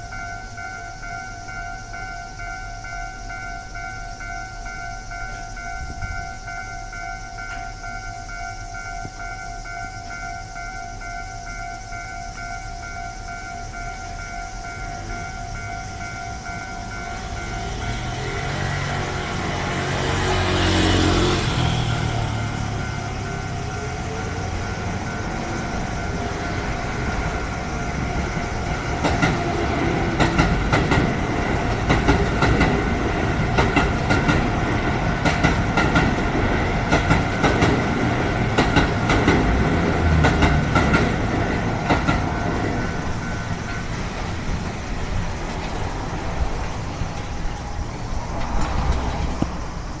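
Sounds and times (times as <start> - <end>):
crossing warning bell ringing: 0.0 - 50.0
train wheels clacking on rails: 0.0 - 50.0.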